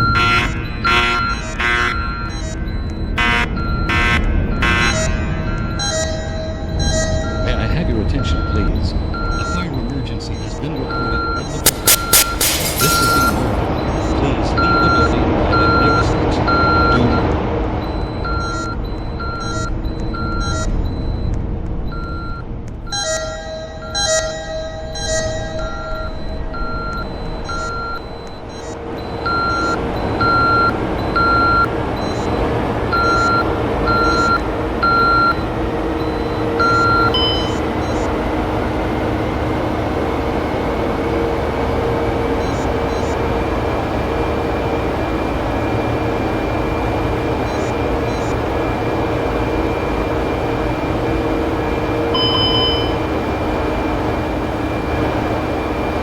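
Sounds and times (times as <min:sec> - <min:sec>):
fire alarm high beeps: 0:00.0 - 0:07.6, 0:08.3 - 0:17.2, 0:17.8 - 0:38.1, 0:42.4 - 0:43.5, 0:44.6 - 0:53.6
low humming drone: 0:00.0 - 0:56.0.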